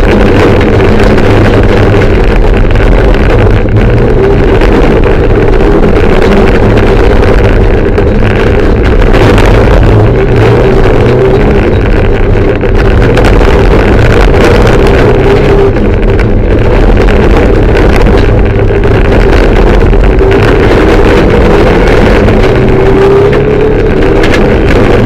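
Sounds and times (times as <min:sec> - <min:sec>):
car engine driven hard: 0:00.0 - 0:25.0.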